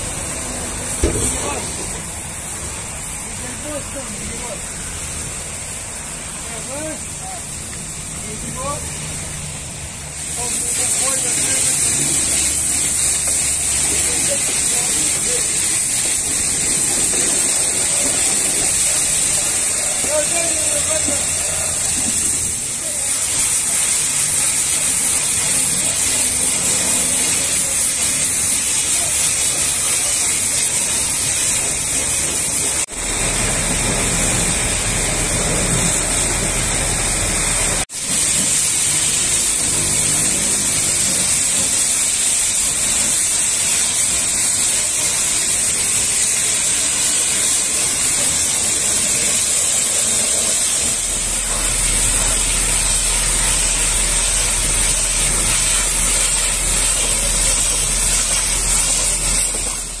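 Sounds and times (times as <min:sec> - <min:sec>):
pressure washer spraying water: 0:00.0 - 1:00.0.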